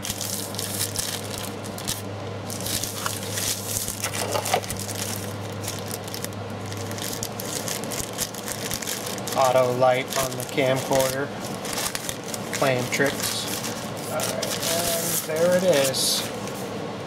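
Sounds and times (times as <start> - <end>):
packaging crinkling and rustling: 0.0 - 16.6
steady low hum: 0.0 - 17.0.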